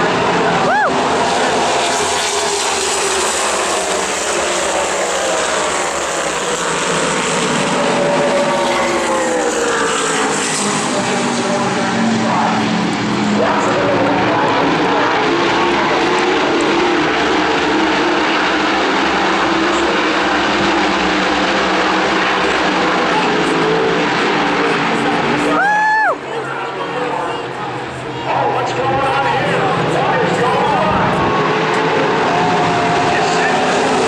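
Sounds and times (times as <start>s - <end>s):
race car engines at high revs: 0.0s - 34.0s.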